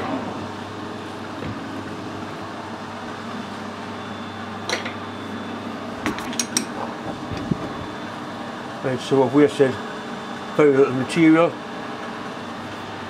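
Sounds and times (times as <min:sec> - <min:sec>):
machine shop hum: 0:00.0 - 0:13.0.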